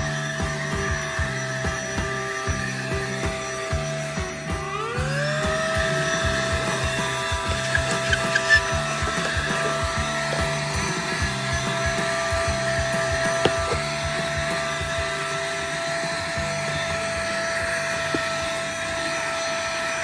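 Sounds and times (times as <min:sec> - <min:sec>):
handheld vacuum cleaner running: 0:00.0 - 0:20.0.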